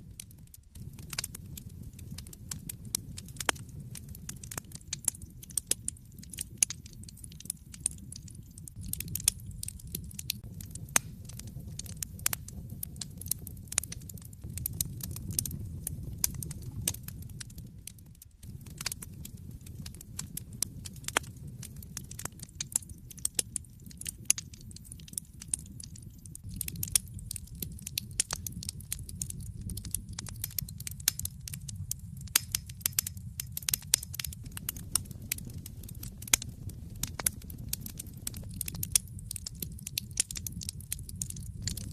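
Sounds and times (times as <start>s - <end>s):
low rumble of flames: 0.0s - 41.9s
wood fire crackling: 0.0s - 41.9s
sharp pops and snaps: 0.1s - 41.9s.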